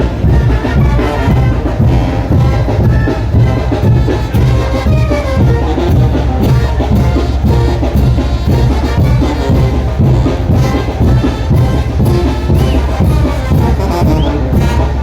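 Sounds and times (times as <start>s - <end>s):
drum and cymbal strikes: 0.0s - 15.0s
trumpets and trombones: 0.0s - 15.0s.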